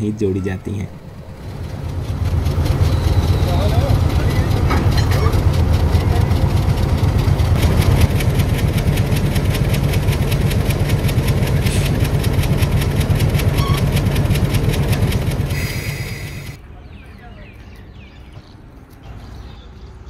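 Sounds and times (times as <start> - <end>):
diesel locomotive engine idling: 0.0 - 17.2.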